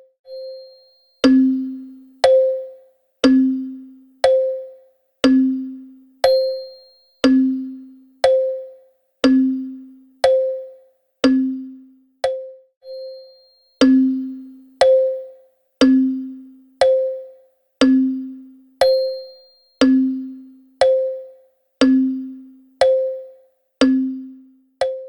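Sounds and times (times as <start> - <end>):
wall clock ticking: 1.2 - 12.5, 13.8 - 25.0.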